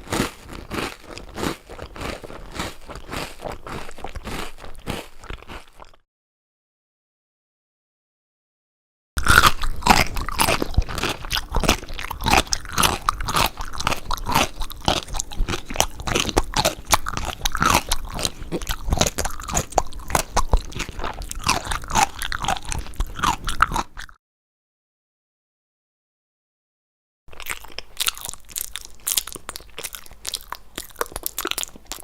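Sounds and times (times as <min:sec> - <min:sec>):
pickle crunching being chewed: 0:00.0 - 0:06.0, 0:09.2 - 0:24.2, 0:27.3 - 0:32.0.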